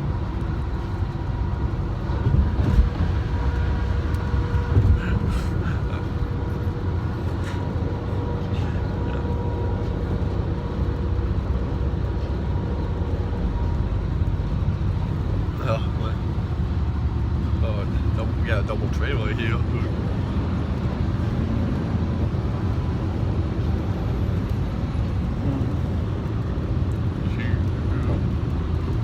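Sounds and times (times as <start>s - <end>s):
road rumble inside car: 0.0s - 29.0s.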